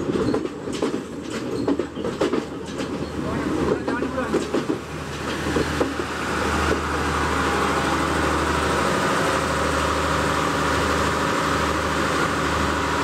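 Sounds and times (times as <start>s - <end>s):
diesel train engine droning: 0.0s - 13.0s.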